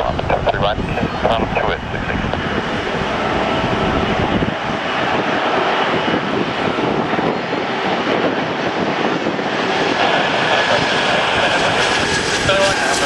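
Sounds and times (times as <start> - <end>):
jet engines on approach: 0.0 - 13.0
wind buffeting microphone: 0.0 - 13.0.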